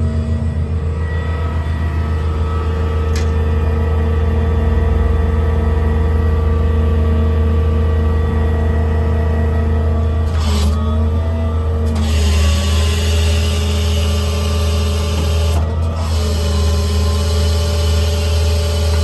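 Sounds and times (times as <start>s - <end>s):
compressor whine: 0.0s - 19.0s
diesel engine running: 0.0s - 19.0s.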